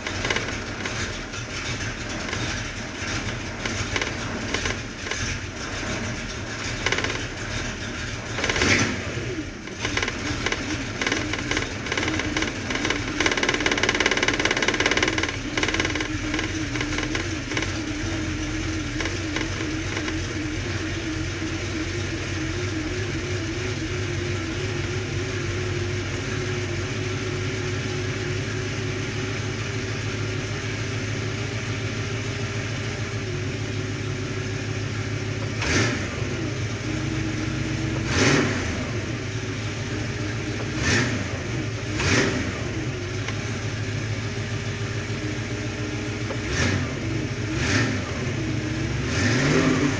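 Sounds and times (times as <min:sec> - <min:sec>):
car engine idling roughly: 0:00.0 - 0:49.9
engine revs: 0:00.0 - 0:49.9.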